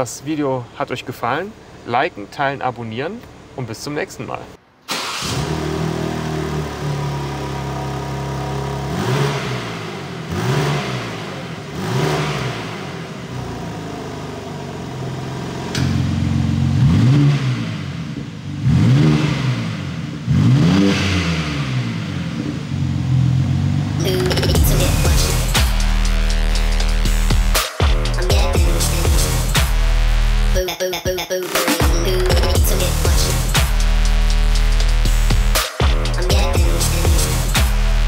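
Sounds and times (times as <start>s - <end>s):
car engine idling and revving: 0.0s - 30.6s, 31.9s - 38.0s.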